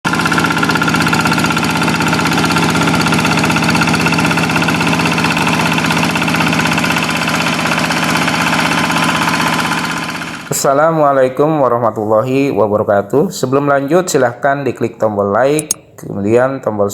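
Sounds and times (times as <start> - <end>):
diesel engine chugging: 0.1 - 14.4.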